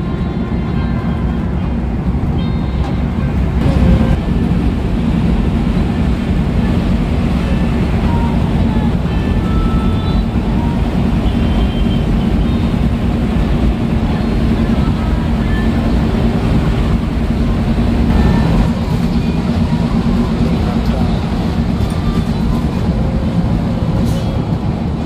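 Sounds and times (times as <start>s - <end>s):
bus engine drone: 0.0s - 25.0s
road noise: 0.0s - 25.0s.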